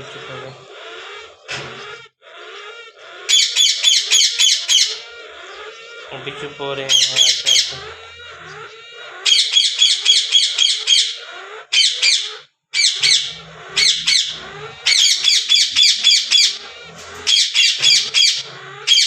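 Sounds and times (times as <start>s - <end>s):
parakeets screeching: 0.0s - 19.0s.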